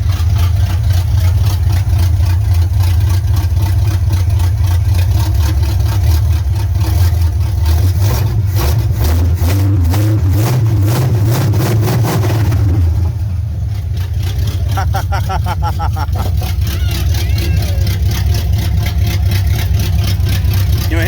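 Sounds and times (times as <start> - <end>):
engine idling loud: 0.0 - 21.0.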